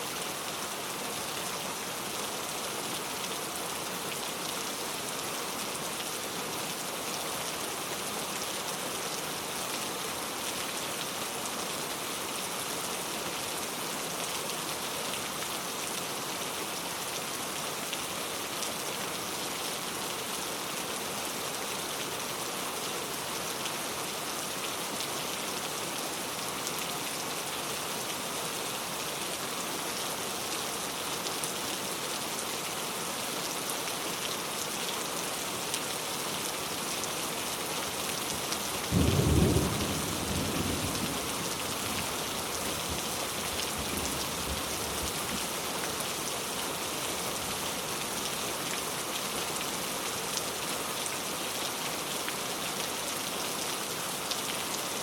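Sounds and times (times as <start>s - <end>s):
heavy rain on road: 0.1s - 55.0s.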